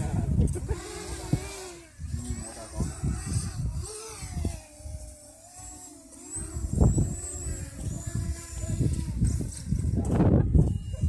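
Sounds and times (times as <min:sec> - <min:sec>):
model airplane motor droning: 0:00.0 - 0:11.0
wind buffeting microphone: 0:00.0 - 0:11.0.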